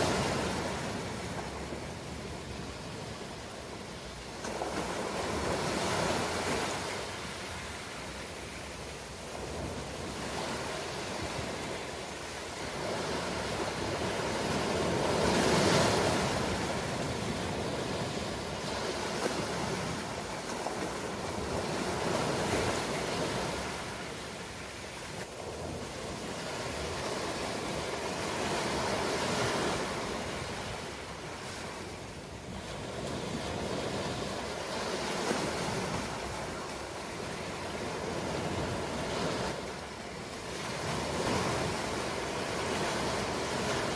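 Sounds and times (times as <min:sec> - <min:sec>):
ocean surf breaking: 0:00.0 - 0:43.9.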